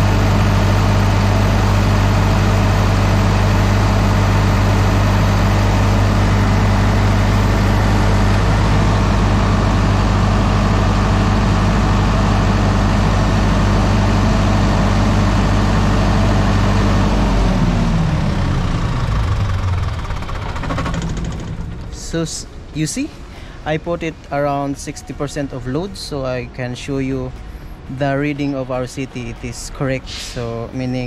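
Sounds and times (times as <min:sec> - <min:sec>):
diesel generator engine running: 0:00.0 - 0:31.0.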